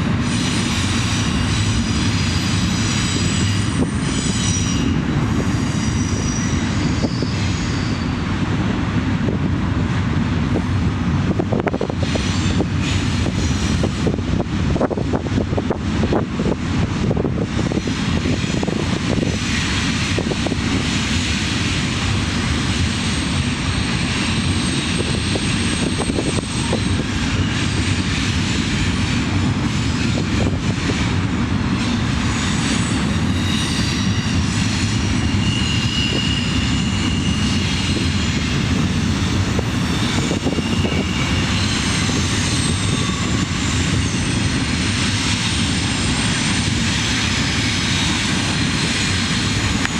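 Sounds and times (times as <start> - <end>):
diesel locomotive engine running: 0.0 - 49.9.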